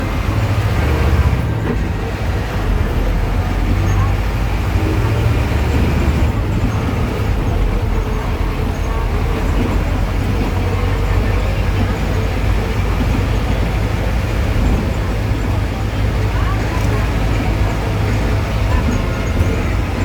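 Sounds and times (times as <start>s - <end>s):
bus diesel engine rumbling: 0.0s - 20.0s
road and cabin noise: 0.0s - 20.0s.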